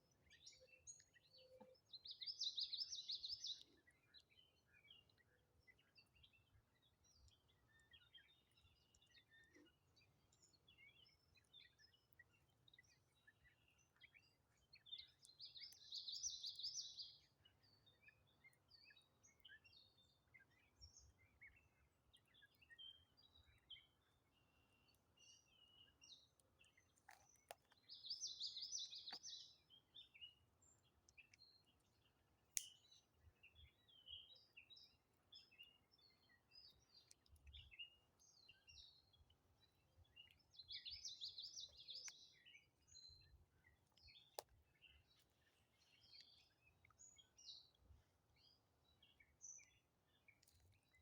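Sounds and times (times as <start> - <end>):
rapid trilled birdsong: 0.0 - 51.0
small songbirds chirping: 0.0 - 51.0.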